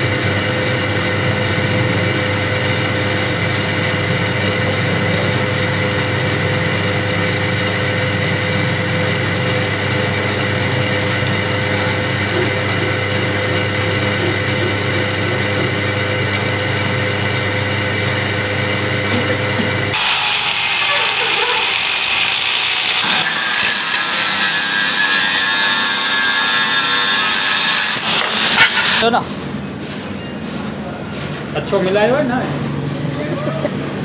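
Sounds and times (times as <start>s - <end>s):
metal lathe motor humming: 0.0s - 29.0s.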